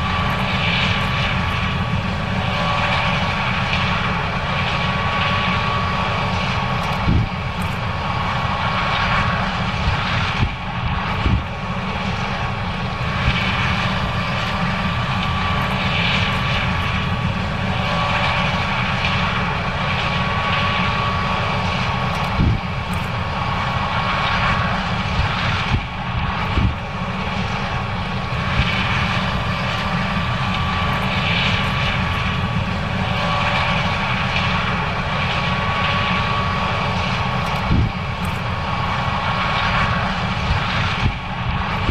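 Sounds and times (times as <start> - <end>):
combine harvester engine drone: 0.0 - 41.9
high machinery whine: 0.0 - 41.9.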